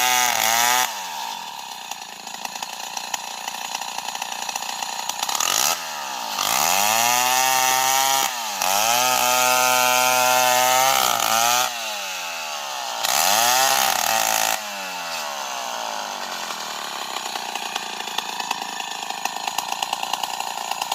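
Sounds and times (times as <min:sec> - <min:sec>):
chainsaw engine revving: 0:00.0 - 0:20.9.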